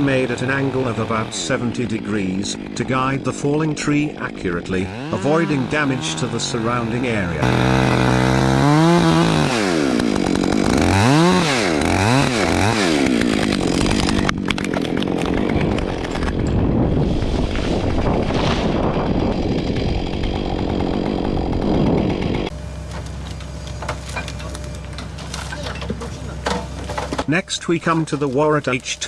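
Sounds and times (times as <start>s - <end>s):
chainsaw revving: 0.0s - 16.4s, 18.2s - 29.0s
chainsaw cutting wood: 0.0s - 29.0s.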